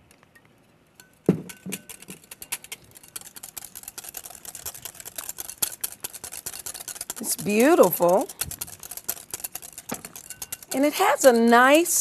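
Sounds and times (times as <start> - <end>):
whisk clicking in glass bowl: 1.0 - 12.0.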